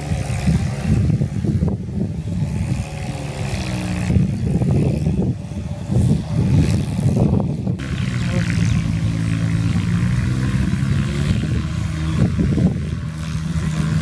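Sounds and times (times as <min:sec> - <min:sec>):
rotary tiller working muddy ground: 0:00.0 - 0:14.0.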